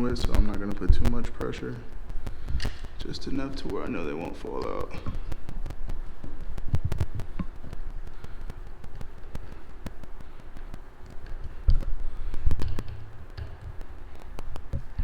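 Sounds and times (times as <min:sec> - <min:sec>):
heavy thumps: 0:00.0 - 0:15.0
low hum: 0:00.0 - 0:15.0.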